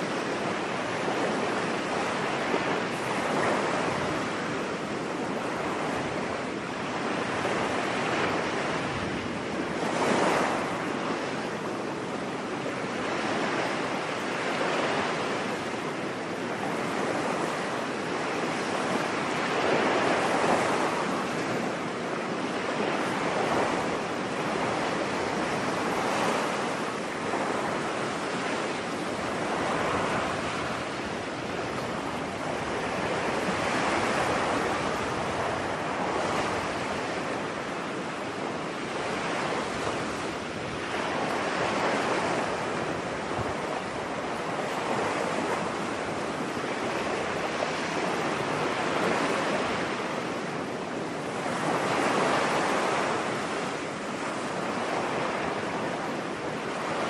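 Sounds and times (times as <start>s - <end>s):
waves washing onto beach: 0.0s - 57.0s.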